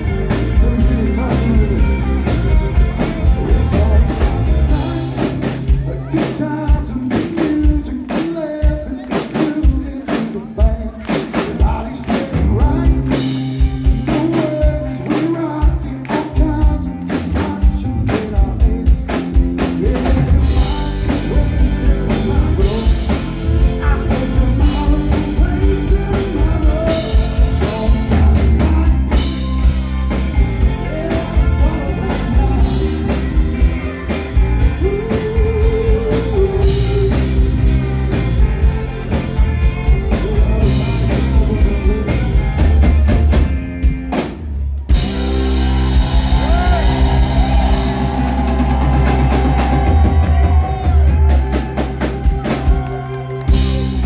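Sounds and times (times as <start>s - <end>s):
lead singer singing: 0.0s - 43.6s, 44.9s - 54.0s
bass guitar: 0.0s - 54.0s
drum kit: 0.0s - 54.0s
electric guitar: 0.0s - 54.0s.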